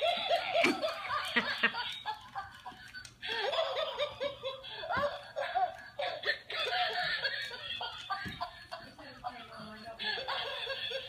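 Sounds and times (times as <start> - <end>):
toy laughing: 0.0 - 11.0.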